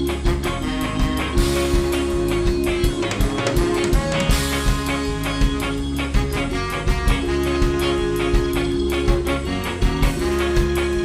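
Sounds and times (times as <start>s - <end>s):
ska band playing live: 0.0s - 11.0s.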